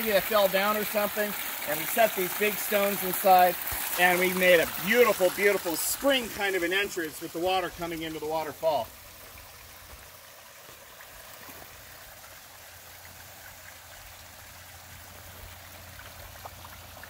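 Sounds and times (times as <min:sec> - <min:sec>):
water trickling over rocks: 0:00.0 - 0:17.0.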